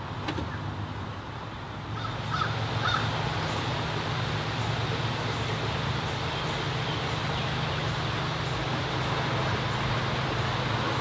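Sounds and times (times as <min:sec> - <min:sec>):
background hiss: 0:00.0 - 0:11.0
steady low hum: 0:00.9 - 0:11.0.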